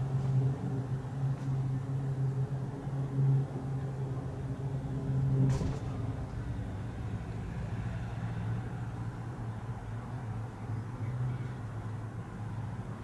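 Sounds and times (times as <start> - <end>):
propeller aircraft engines droning: 0.0 - 13.0.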